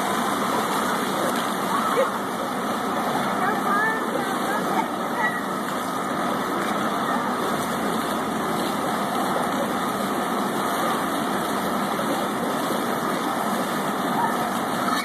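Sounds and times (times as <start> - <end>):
fountain jets spraying water: 0.0 - 15.0.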